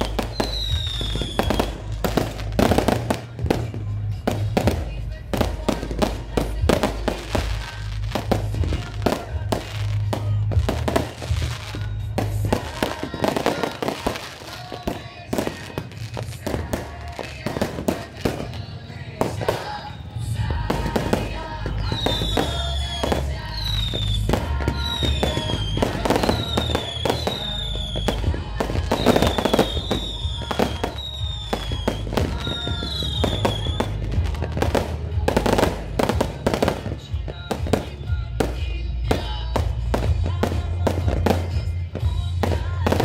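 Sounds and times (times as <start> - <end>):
fireworks banging: 0.0 - 43.0
loud music with heavy bass: 0.0 - 43.0.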